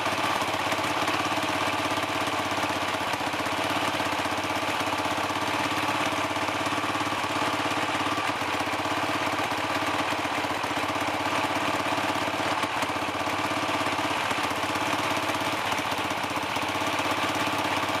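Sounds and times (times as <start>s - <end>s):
dirt bike engine idling: 0.0s - 18.0s.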